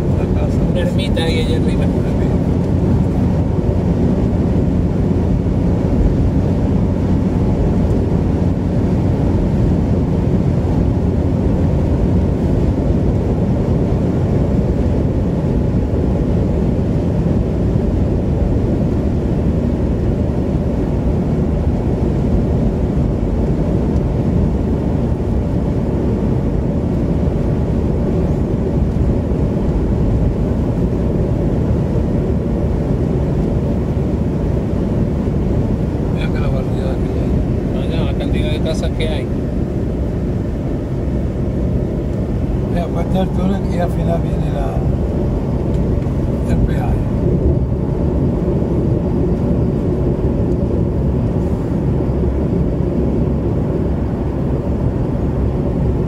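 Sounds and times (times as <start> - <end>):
car cabin road and engine drone: 0.0 - 56.0.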